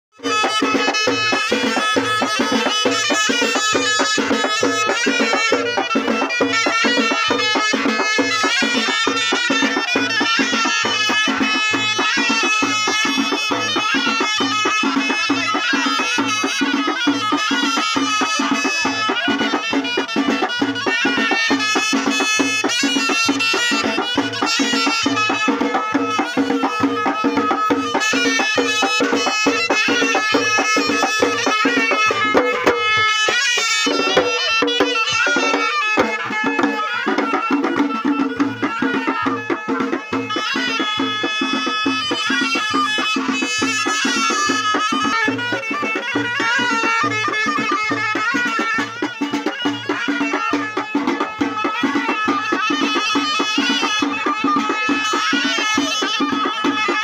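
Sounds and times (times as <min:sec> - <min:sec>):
frame drums beating: 0:00.2 - 0:57.0
shawm playing wavering melody: 0:00.2 - 0:57.0.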